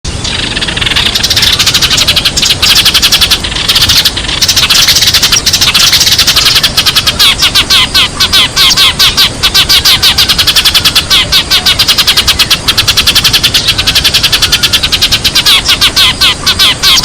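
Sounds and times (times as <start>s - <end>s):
sparrows chirping: 0.1s - 17.0s.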